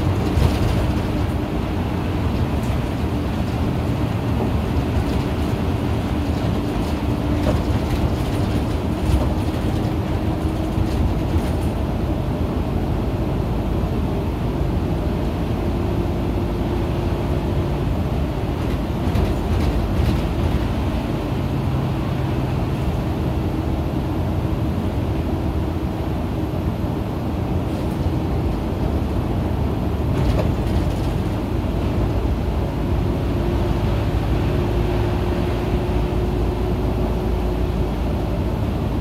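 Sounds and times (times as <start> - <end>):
bus diesel engine droning: 0.0 - 39.0
road noise inside bus: 0.0 - 39.0.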